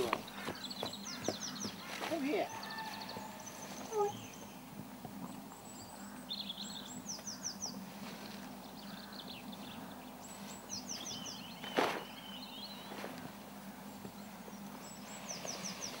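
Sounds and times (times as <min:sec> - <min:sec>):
low steady hum: 0:00.0 - 0:16.0
songbird singing: 0:00.0 - 0:16.0.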